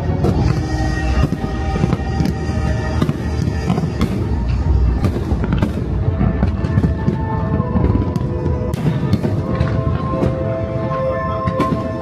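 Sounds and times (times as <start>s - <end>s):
fireworks bangs and crackles: 0.0s - 12.0s
steady music: 0.0s - 12.0s.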